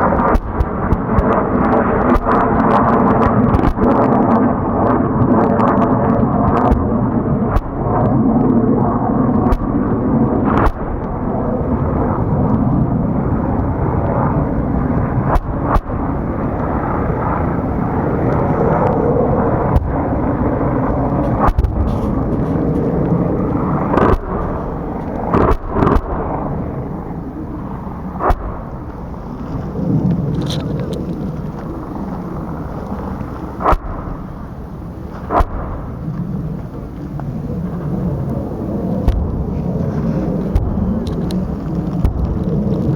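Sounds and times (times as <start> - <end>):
helicopter rotor and turbine: 0.0 - 42.9
sharp cracks: 0.0 - 42.9.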